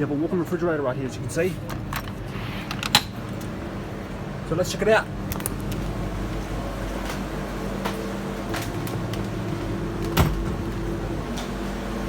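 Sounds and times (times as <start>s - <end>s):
refrigerator machinery humming: 0.0s - 12.0s.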